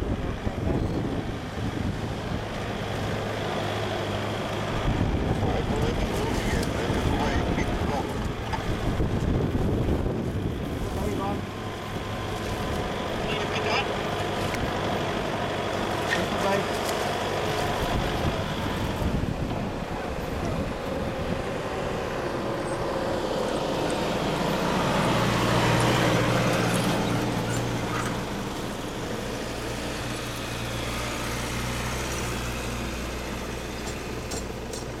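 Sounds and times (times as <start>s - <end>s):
truck engine pulling uphill: 0.0s - 35.0s.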